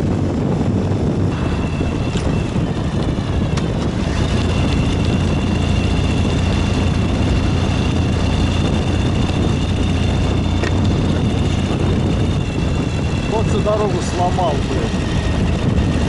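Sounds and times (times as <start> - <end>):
motorcycle engine running: 0.0 - 16.0
road and wind noise: 0.0 - 16.0
steady high whine: 0.0 - 16.0.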